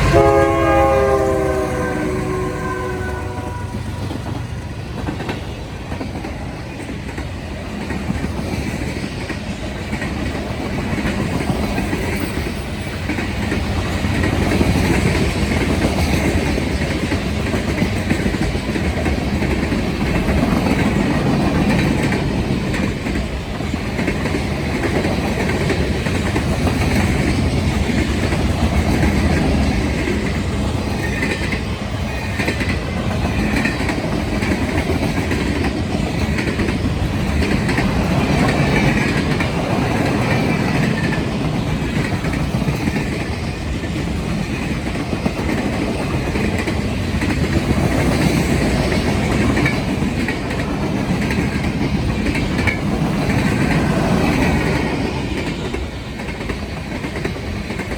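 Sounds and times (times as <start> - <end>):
clickety-clack over rail joints: 0.0 - 57.9
train wheels rumbling on rail: 0.0 - 57.9.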